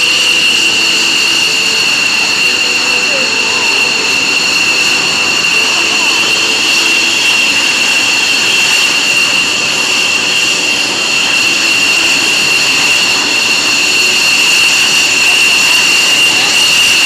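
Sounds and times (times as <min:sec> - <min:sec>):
jet engine idling whine: 0:00.0 - 0:17.0.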